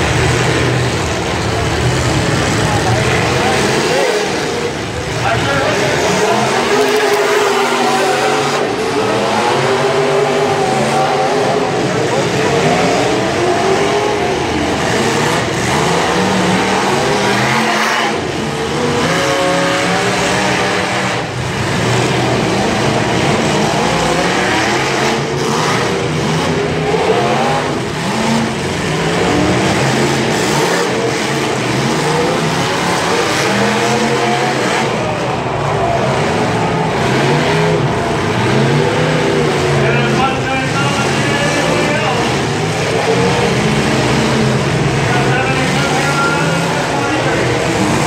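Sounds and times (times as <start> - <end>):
car engines revving: 0.0 - 48.0
crowd din: 0.0 - 48.0.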